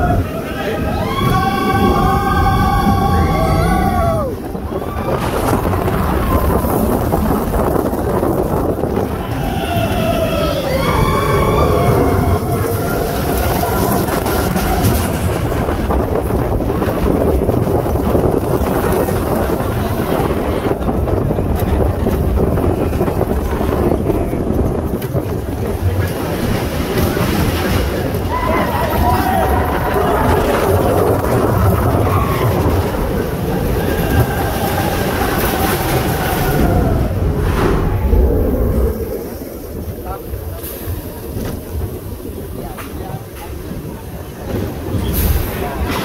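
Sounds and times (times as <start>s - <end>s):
roller coaster rumbling on track: 0.0s - 46.0s
wind noise on microphone: 0.0s - 46.0s.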